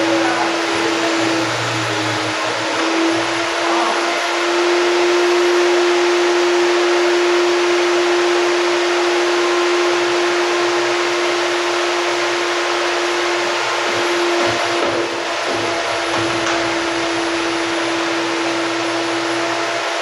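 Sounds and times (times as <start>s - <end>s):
electric motor hum-whine: 0.0s - 20.0s.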